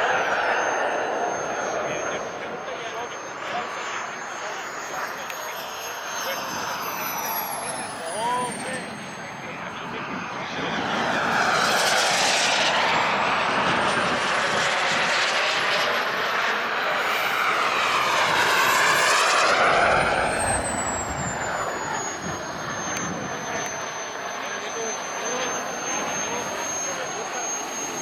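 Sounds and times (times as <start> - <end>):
high turbine whine: 0.0 - 28.0
model jet flying past: 0.0 - 28.0.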